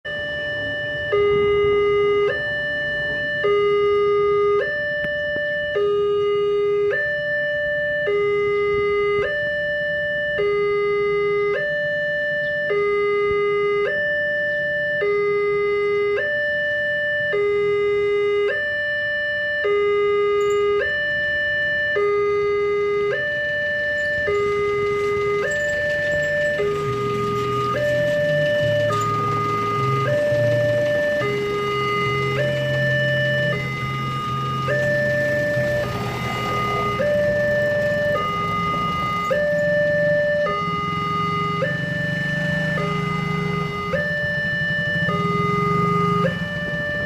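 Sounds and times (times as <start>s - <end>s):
two-tone level crossing alarm: 0.0s - 47.0s.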